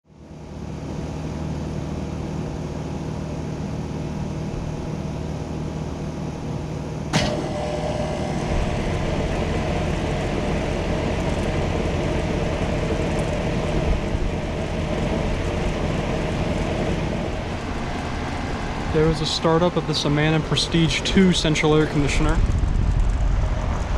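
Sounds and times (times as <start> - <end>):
air conditioner unit humming: 0.1 - 23.9.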